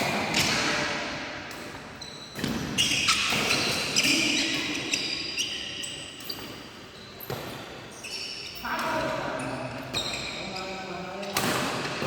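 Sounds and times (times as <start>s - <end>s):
shoes squeaking on court: 1.5s - 12.0s.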